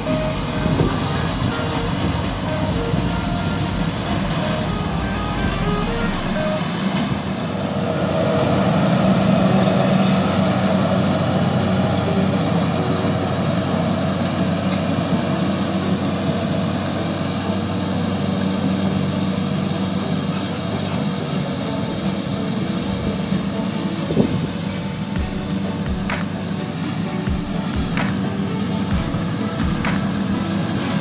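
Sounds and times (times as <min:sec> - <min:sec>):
combine harvester engine hum: 0:00.0 - 0:31.0.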